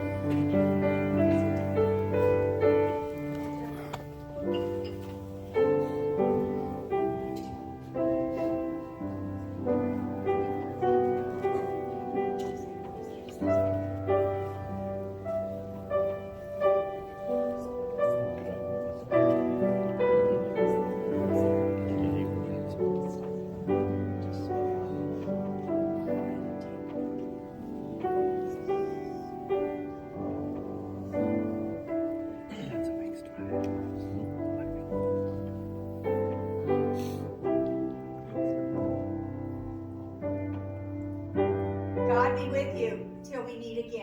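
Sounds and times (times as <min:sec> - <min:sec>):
gentle keyboard chords: 0:00.0 - 0:44.0.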